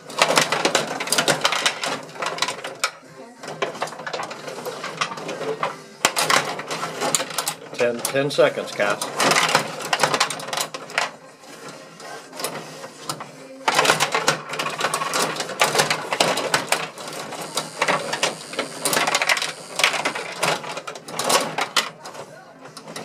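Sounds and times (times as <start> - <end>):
plastic players clacking on puck: 0.0 - 23.0
steel rods sliding: 0.0 - 23.0.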